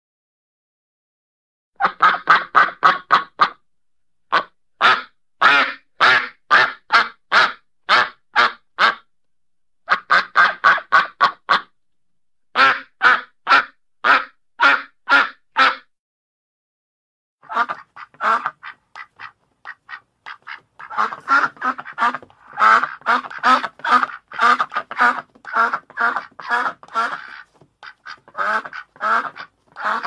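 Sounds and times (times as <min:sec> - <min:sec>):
duck quacking: 0:01.8 - 0:03.6, 0:04.3 - 0:09.1, 0:09.9 - 0:11.7, 0:12.5 - 0:15.9, 0:17.4 - 0:30.0.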